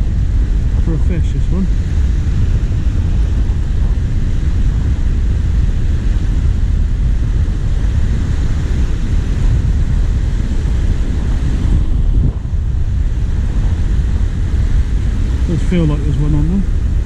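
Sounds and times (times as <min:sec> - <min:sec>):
small surf waves: 0:00.0 - 0:17.0
wind buffeting microphone: 0:00.0 - 0:17.0.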